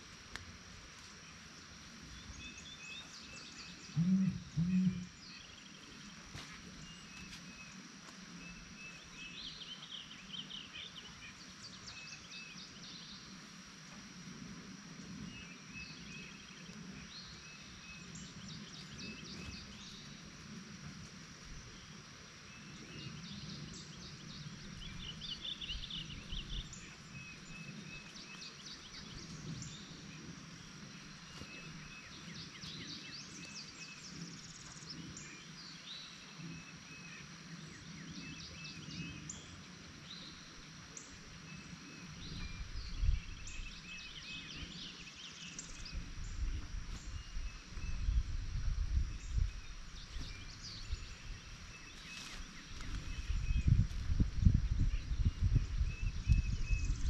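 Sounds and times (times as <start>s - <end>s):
songbirds singing: 0.0s - 14.2s, 14.9s - 20.6s, 21.3s - 57.0s
steady outdoor hiss: 0.0s - 57.0s.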